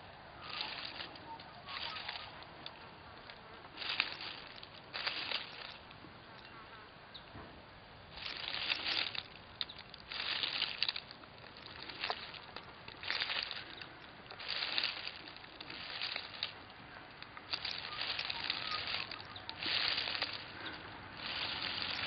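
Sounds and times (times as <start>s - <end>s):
dry leaves rustling and crunching: 0.0s - 6.6s, 8.0s - 22.0s.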